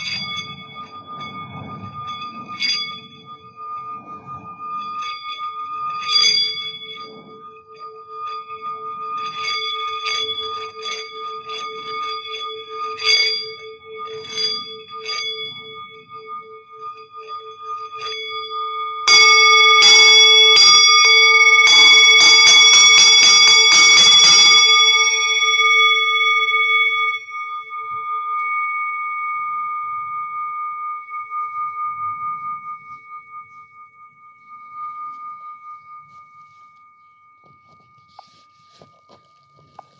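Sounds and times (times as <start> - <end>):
singing bowl ringing: 0.0 - 39.9
singing bowl strikes: 0.0 - 39.9.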